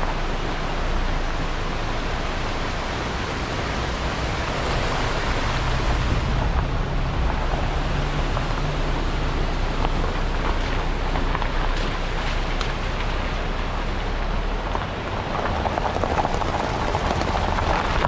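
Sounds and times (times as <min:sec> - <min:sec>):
stream rushing over rapids: 0:00.0 - 0:18.0.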